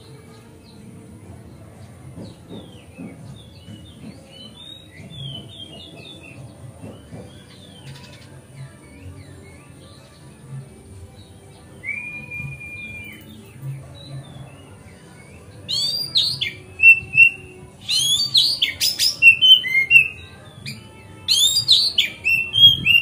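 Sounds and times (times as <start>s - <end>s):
bird singing: 1.5s - 23.0s.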